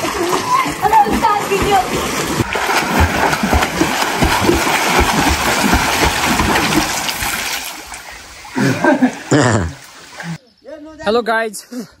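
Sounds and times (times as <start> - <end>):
water splashing from swimming: 0.0 - 10.4.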